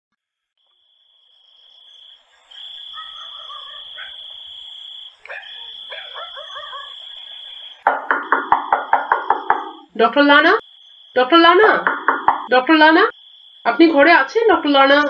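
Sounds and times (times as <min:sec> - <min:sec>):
frogs croaking: 0:00.6 - 0:15.0
high insect trill: 0:00.6 - 0:15.0.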